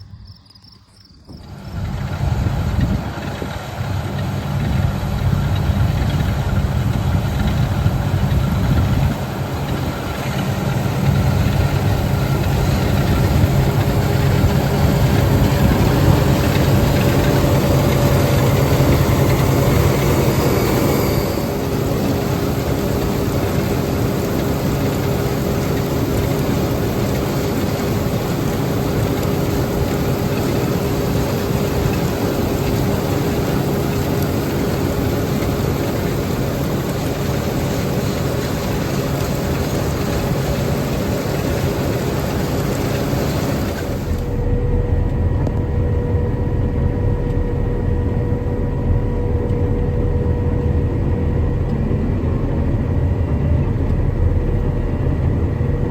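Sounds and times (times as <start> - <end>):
deep engine drone: 0.0 - 55.9
farm machinery engine running: 0.0 - 55.9
steady whine: 0.0 - 55.9.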